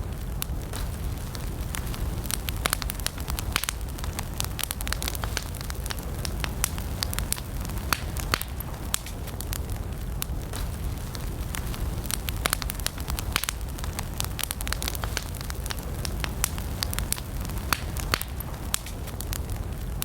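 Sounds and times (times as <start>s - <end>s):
campfire crackling and popping: 0.0s - 20.0s
low rush of flames: 0.0s - 20.0s.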